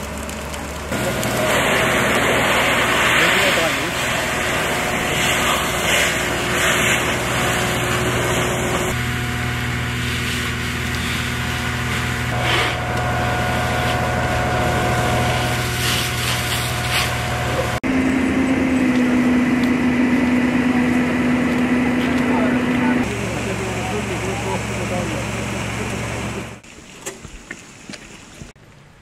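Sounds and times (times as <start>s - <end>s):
engine running: 0.0s - 27.2s
fire hose spraying water: 0.0s - 28.6s.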